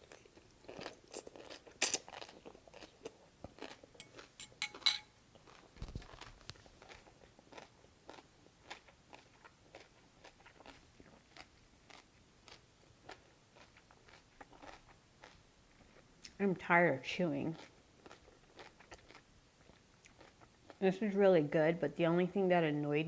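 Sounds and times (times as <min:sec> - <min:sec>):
crunchy chewing of cucumber: 0:00.0 - 0:04.7, 0:05.3 - 0:16.4, 0:17.4 - 0:20.8.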